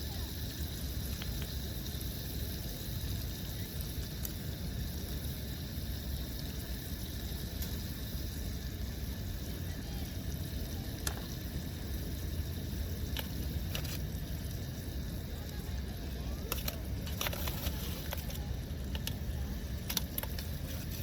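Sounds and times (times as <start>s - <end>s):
steady low rumble: 0.0s - 21.0s
campfire pops: 0.1s - 21.0s.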